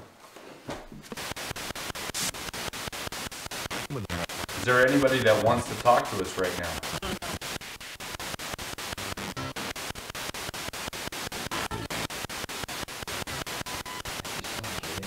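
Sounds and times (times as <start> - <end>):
radio static in rapid bursts: 1.1 - 15.0.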